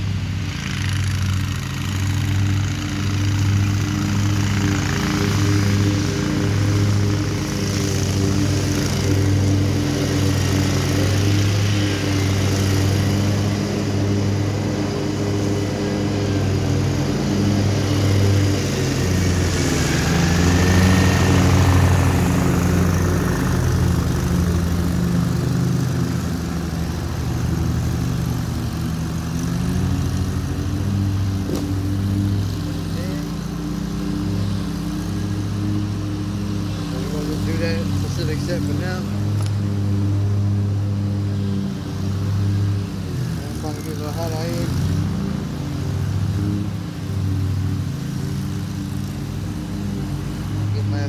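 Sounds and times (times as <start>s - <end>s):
lawn mower engine running: 0.0s - 51.0s.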